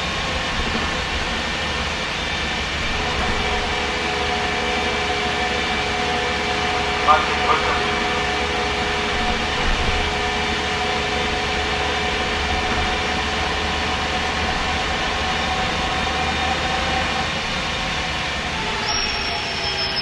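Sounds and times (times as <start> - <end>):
bus engine rumble: 0.0 - 20.0
gearbox whining tones: 0.0 - 20.0
thin high whine: 0.0 - 20.0.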